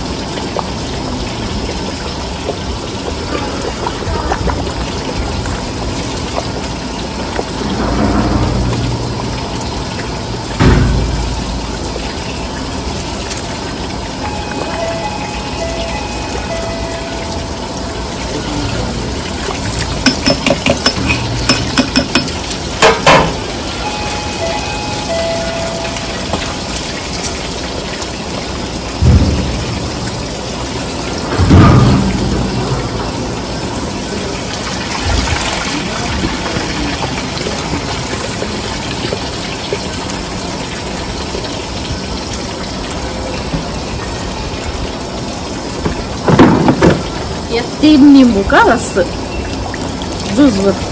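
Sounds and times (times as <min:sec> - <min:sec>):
pot boiling and bubbling: 0:00.0 - 0:50.9.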